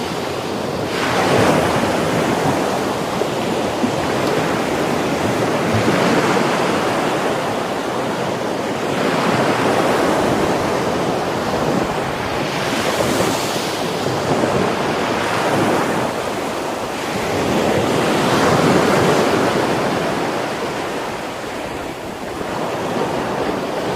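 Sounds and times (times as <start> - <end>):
surf breaking on a beach: 0.0 - 23.9
wind buffeting microphone: 0.0 - 23.9.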